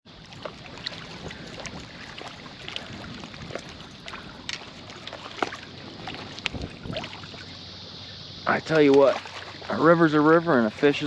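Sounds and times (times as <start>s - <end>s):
river water flowing: 0.1s - 11.0s
small water splashes: 0.1s - 11.0s.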